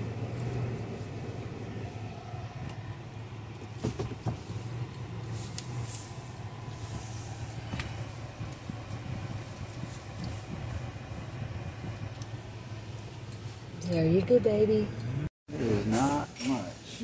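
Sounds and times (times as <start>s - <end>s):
car interior low hum: 0.0s - 17.0s.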